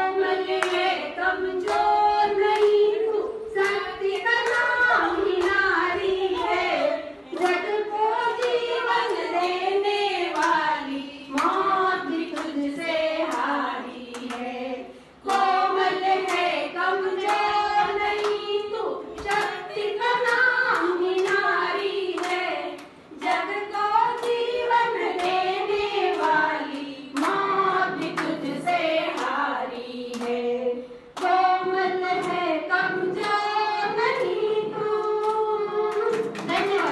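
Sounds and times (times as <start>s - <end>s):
women clapping along: 0.0s - 36.9s.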